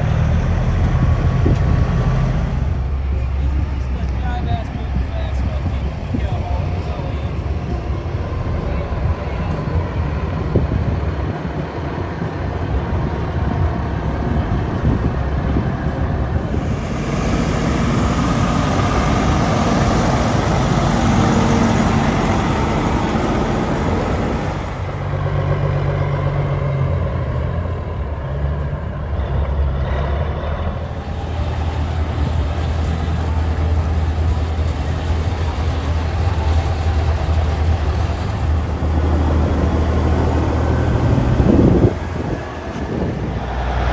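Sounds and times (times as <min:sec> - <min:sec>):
rush of truck engine and road noise: 0:00.0 - 0:43.9
truck engine idling rumble: 0:00.0 - 0:43.9.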